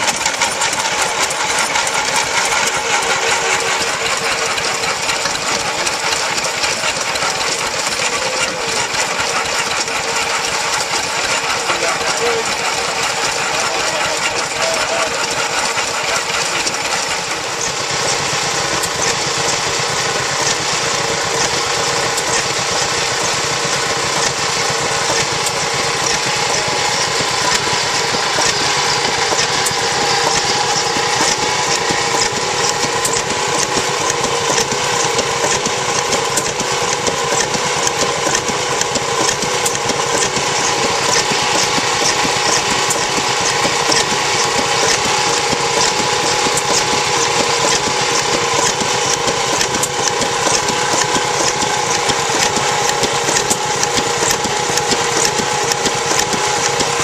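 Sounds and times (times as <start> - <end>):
stationary engines clattering: 0.0 - 57.0.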